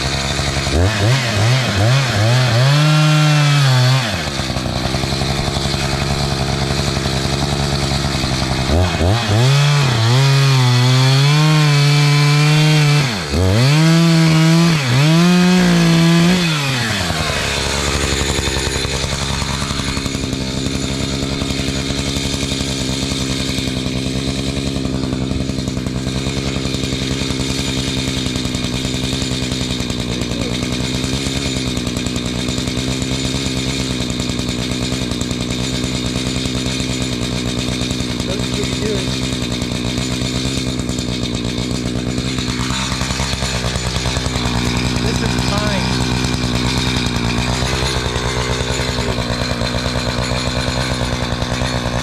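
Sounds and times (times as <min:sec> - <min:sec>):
chainsaw cutting log: 0:00.0 - 0:52.0
chainsaw idling: 0:00.0 - 0:52.0.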